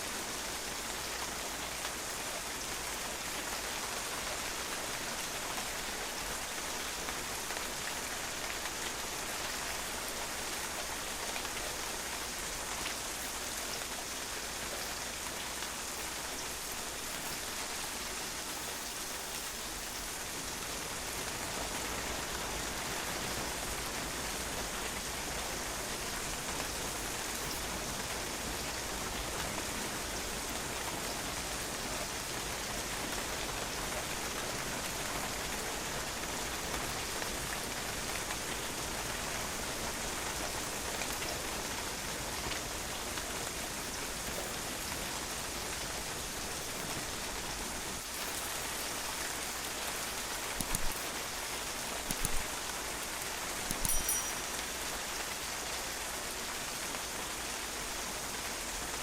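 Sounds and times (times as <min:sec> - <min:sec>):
rain pattering on patio: 0:00.0 - 0:59.0.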